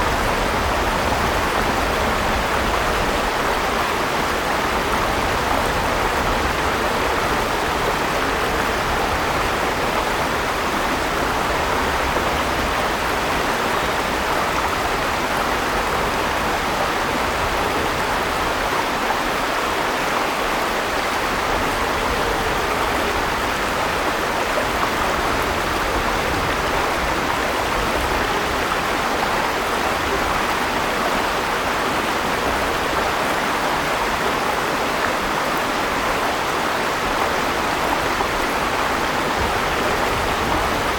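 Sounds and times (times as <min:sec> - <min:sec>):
river water rushing over stones: 0:00.0 - 0:40.9.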